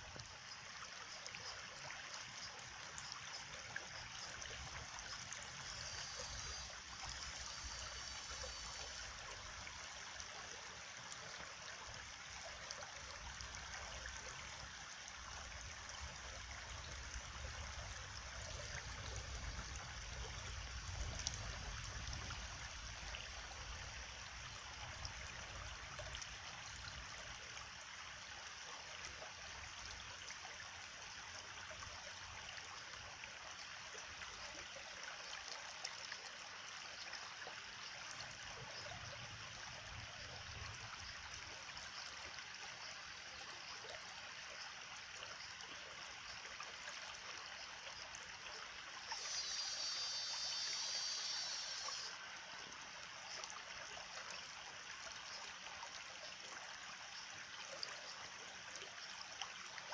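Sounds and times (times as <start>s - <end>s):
stream of water running: 0.0s - 59.9s.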